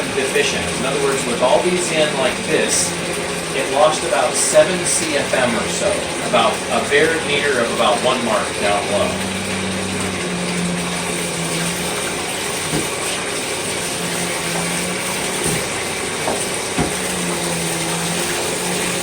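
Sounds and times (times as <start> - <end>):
low hum in plumbing: 0.0 - 19.0
tap water running: 0.0 - 19.0.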